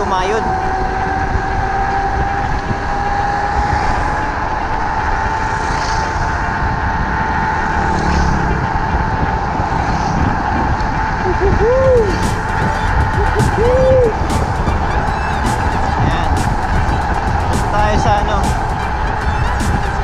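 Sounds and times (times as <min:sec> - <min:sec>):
electric scooter motor whining: 0:00.0 - 0:20.0
wind and road noise: 0:00.0 - 0:20.0.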